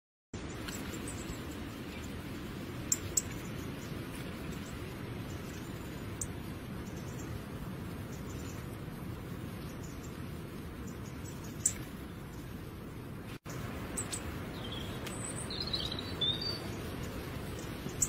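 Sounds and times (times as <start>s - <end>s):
steady low rumble: 0.4s - 18.0s.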